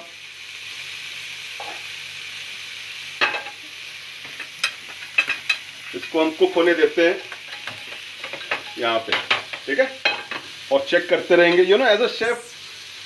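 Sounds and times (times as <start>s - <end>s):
skewers sizzling in hot oil: 0.0s - 13.0s.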